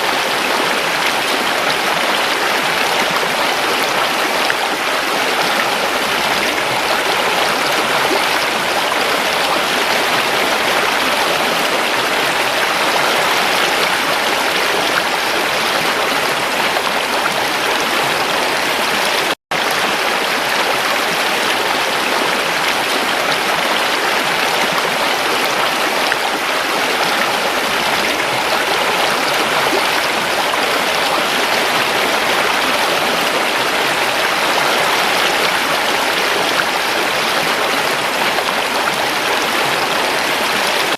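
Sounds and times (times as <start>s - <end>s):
creek water running over rocks: 0.0s - 40.9s.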